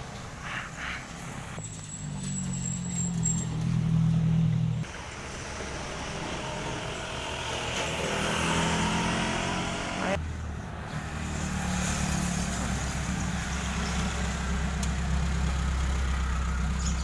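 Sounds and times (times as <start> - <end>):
tyre road noise hiss: 0.0 - 3.8, 4.8 - 17.0
vehicle engine running: 0.0 - 17.0.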